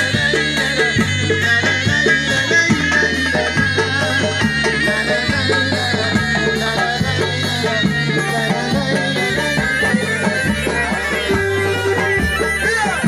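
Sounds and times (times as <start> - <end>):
drums: 0.0 - 13.0
wind instrument melody: 0.0 - 13.0.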